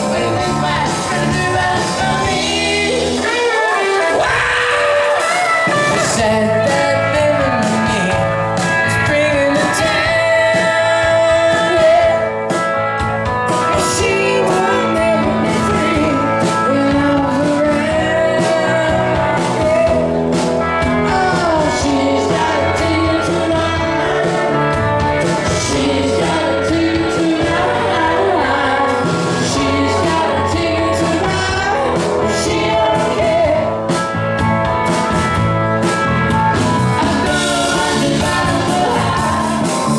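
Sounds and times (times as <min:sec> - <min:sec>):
electric guitars: 0:00.0 - 0:39.9
lead singer: 0:00.0 - 0:39.9
steady drum beat: 0:00.0 - 0:39.9.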